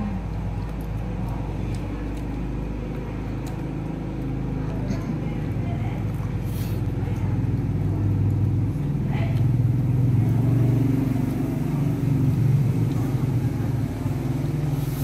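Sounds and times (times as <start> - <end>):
motor rumbling: 0.0 - 15.0.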